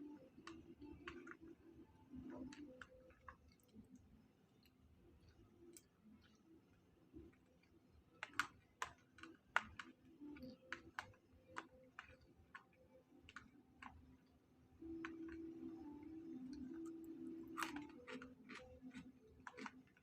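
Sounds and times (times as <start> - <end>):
soft eating clicks and taps: 0.0 - 20.0.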